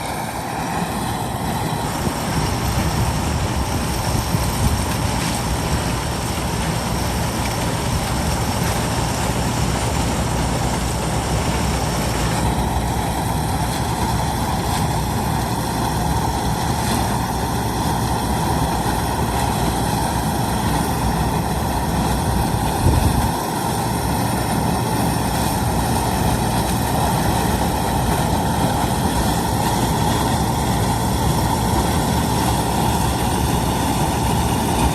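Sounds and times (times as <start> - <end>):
heavy machine engine whirring: 0.0 - 34.9.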